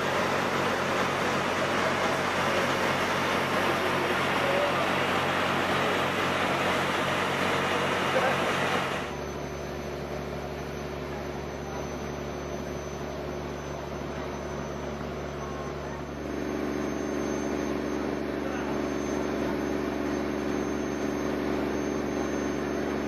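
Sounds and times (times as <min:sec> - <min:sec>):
ferry engine running: 0:00.0 - 0:23.0
quieter steady engine drone: 0:00.0 - 0:23.0.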